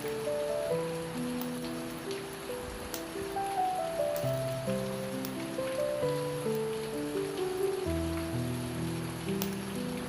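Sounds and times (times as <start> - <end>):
rain pattering: 0.0 - 10.0
slow soft music of held low notes: 0.0 - 10.0.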